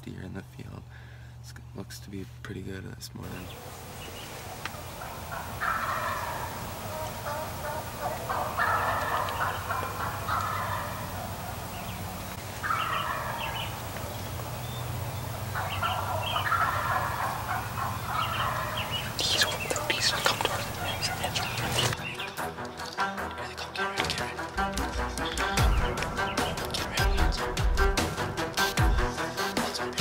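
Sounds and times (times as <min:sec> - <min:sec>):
turkeys gobbling: 0:03.2 - 0:29.8.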